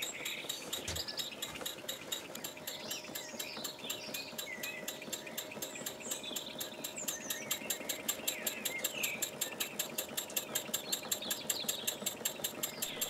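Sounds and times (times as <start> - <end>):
small engine ticking: 0.0 - 13.0.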